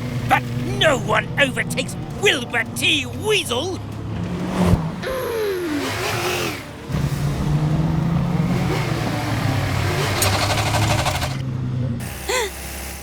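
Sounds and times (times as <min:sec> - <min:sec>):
cartoon engines revving: 0:00.0 - 0:11.4, 0:12.0 - 0:13.0.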